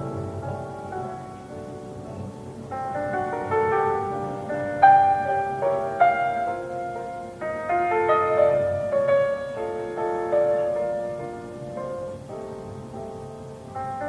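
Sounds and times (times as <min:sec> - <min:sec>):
slow classical piano piece: 0:00.0 - 0:14.0.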